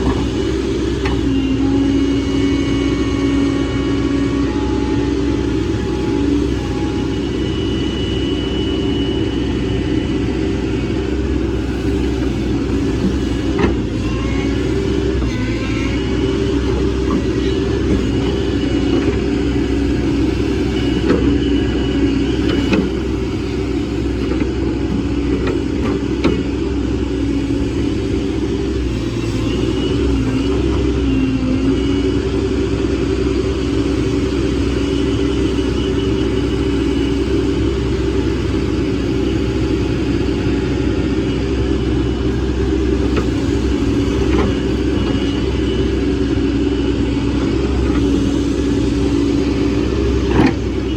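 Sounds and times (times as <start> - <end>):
excavator engine and hydraulics: 0.0 - 50.9.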